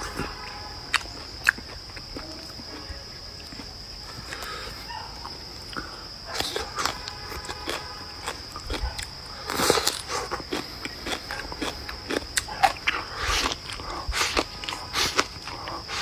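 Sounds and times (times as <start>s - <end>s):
wet chewing and crunching: 0.0s - 16.0s.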